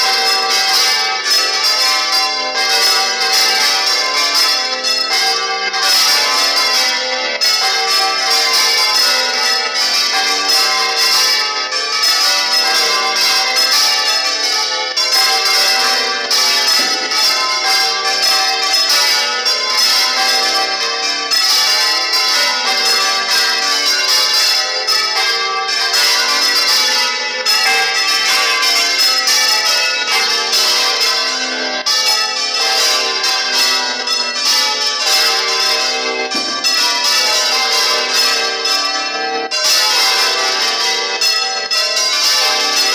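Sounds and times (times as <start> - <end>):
church bells pealing: 0.0 - 42.9.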